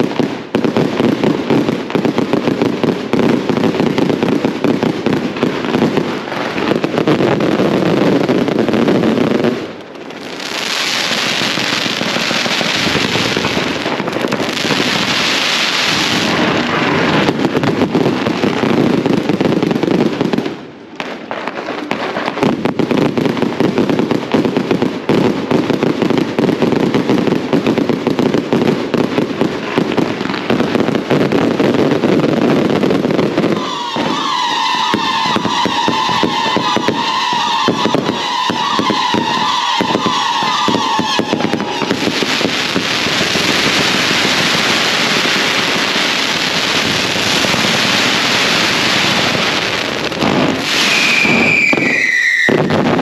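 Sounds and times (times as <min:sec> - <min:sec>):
firecrackers crackling: 0:00.0 - 0:53.0.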